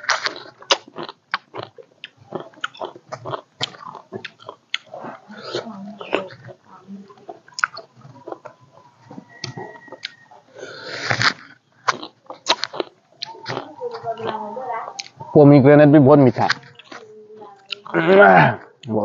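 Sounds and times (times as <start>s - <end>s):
person chewing fruit: 0.0s - 15.4s, 16.3s - 18.9s.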